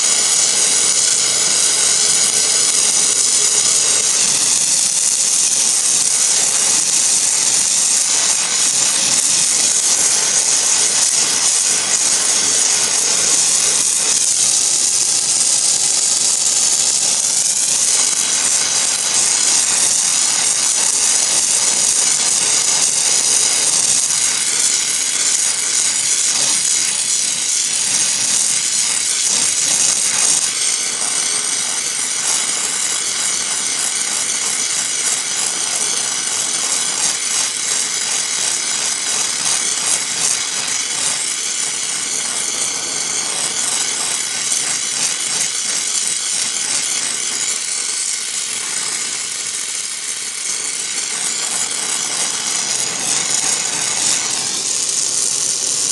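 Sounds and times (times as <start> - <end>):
gas torch flame hissing: 0.0 - 55.9.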